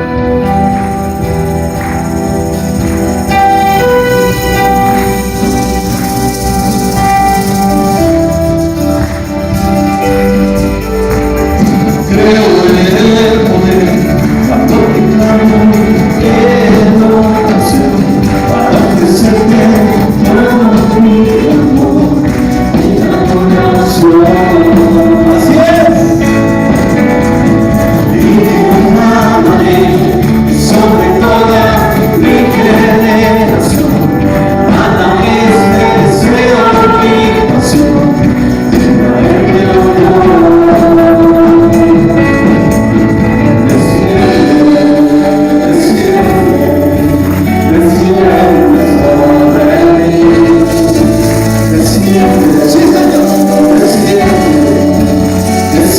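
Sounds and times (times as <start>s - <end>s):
band playing worship music: 0.0s - 55.9s
people singing: 0.0s - 55.9s
percussion strikes: 0.0s - 55.9s.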